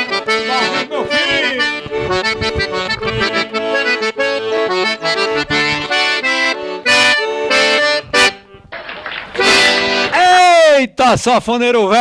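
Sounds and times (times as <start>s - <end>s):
lively accordion tune: 0.0s - 10.3s.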